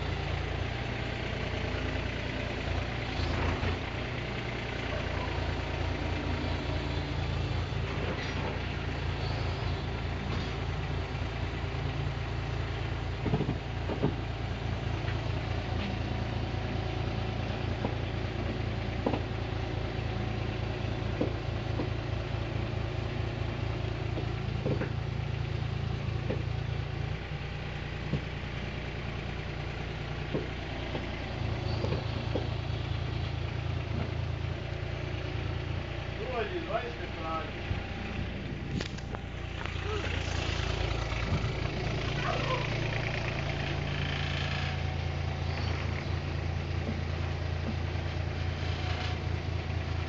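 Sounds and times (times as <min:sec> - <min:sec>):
engine idling: 0:00.0 - 0:50.0.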